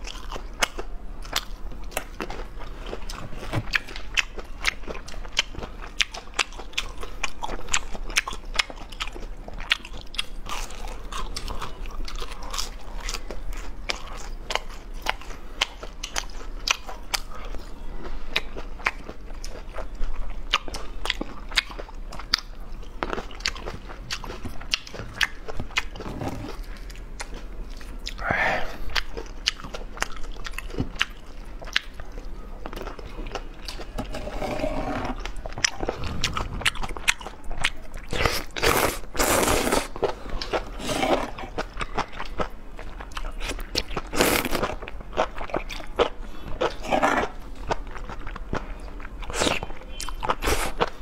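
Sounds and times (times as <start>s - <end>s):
crunchy chewing: 0.0s - 51.0s.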